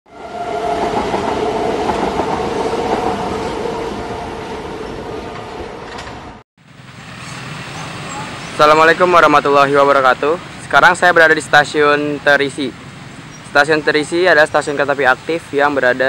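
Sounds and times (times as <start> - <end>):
train rumbling past: 0.1 - 15.9.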